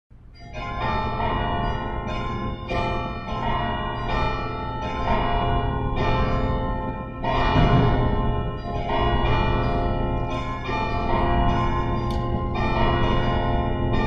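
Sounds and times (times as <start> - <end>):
church bells ringing: 0.3 - 14.0.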